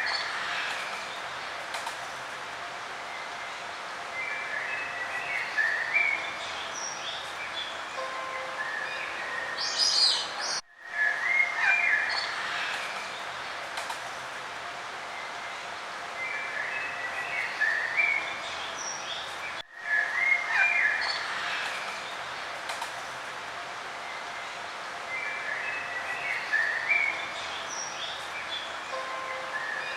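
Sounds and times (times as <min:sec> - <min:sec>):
outdoor background hiss: 0:00.0 - 0:29.9
songbirds chirping: 0:00.0 - 0:29.9.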